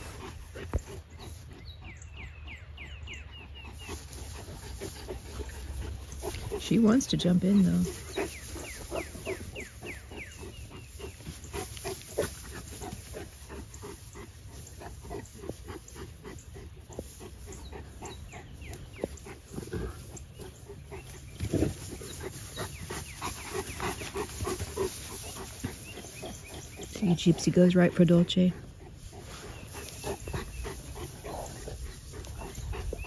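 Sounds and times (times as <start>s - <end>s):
dogs play-fighting: 0.0s - 33.0s
paws scuffling in pine straw: 0.0s - 33.0s.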